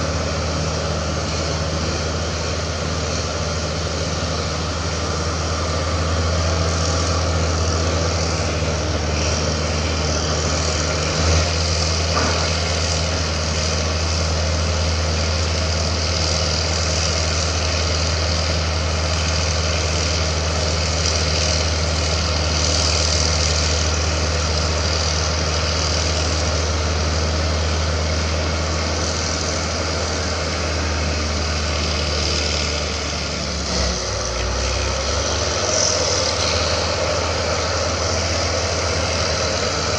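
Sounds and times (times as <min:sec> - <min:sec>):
heavy diesel engines humming: 0:00.0 - 0:39.9.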